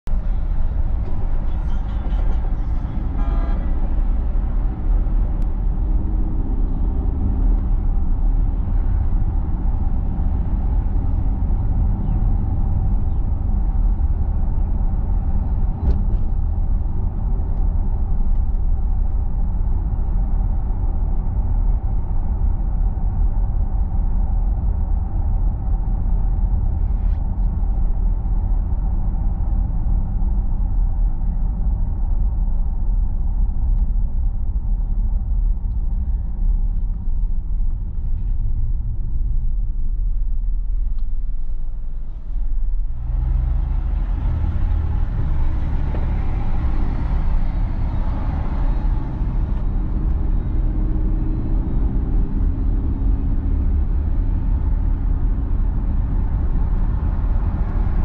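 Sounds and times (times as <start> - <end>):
car driving interior rumble: 0.0 - 58.0.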